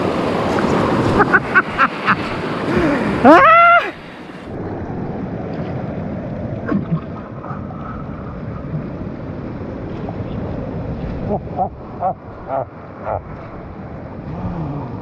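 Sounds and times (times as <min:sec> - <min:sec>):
sea surf: 0:00.0 - 0:15.0
wind: 0:00.0 - 0:15.0.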